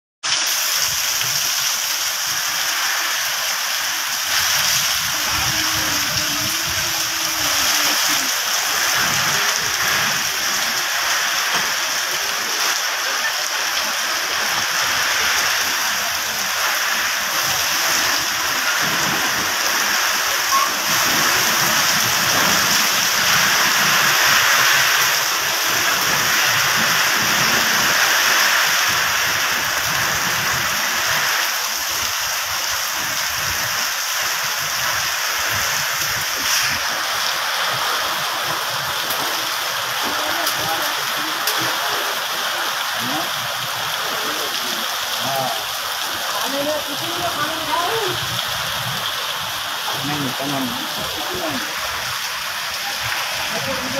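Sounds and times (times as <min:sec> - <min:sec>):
heavy rain pouring: 0:00.2 - 0:53.9.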